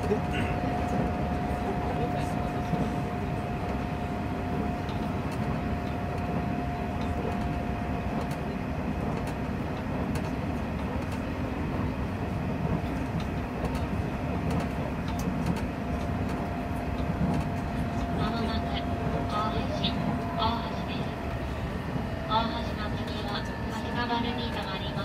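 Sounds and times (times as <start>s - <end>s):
steady train whine: 0.0s - 25.0s
train wheels rumbling on rail: 0.0s - 25.0s.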